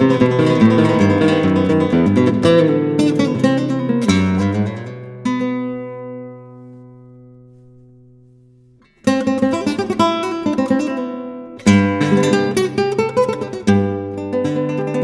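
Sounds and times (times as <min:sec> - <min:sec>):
flamenco guitar strumming: 0:00.0 - 0:15.0.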